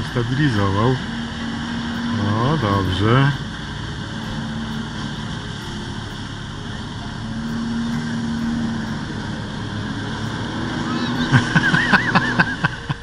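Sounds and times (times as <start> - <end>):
jet ski engine drone: 0.0 - 13.0.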